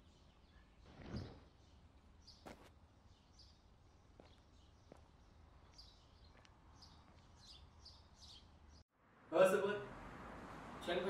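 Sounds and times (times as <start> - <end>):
faint birds chirping: 0.0 - 8.9.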